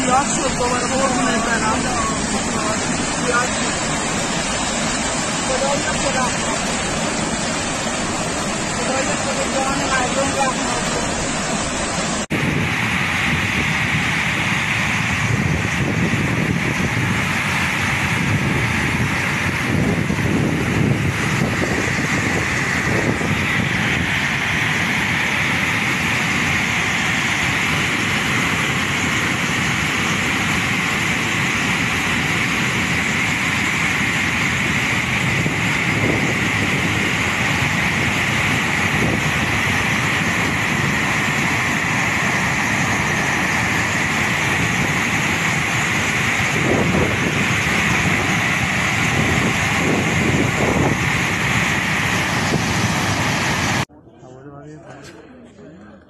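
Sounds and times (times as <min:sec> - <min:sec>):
flood water rushing: 0:00.0 - 0:53.9.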